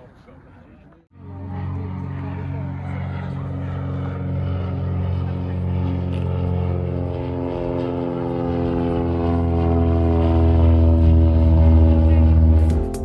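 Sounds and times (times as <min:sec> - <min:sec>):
propeller aircraft engine: 0:01.1 - 0:13.0.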